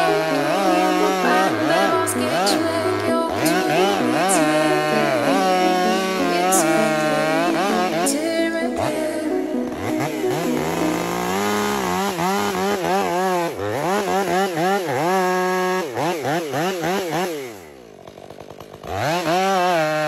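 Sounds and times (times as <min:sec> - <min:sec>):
chainsaw revving: 0:00.0 - 0:20.0.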